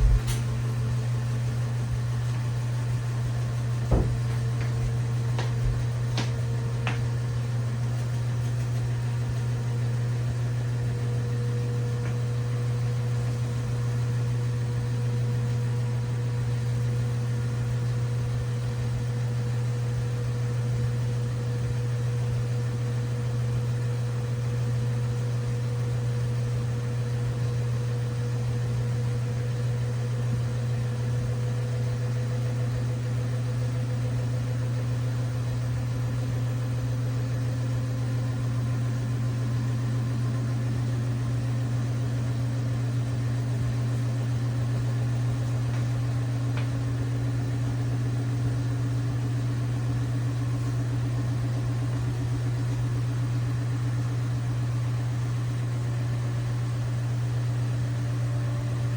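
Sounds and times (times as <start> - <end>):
washing machine hum: 0.0 - 58.9.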